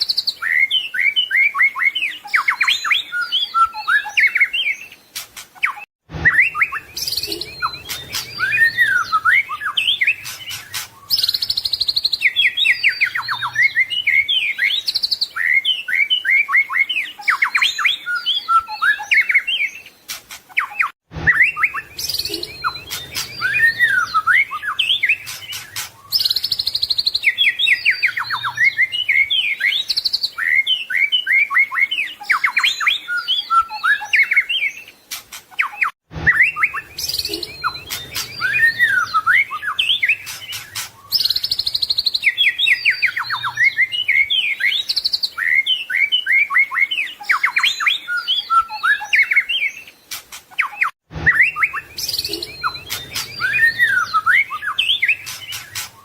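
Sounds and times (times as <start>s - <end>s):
bird singing trills and whistles: 0.0s - 56.0s.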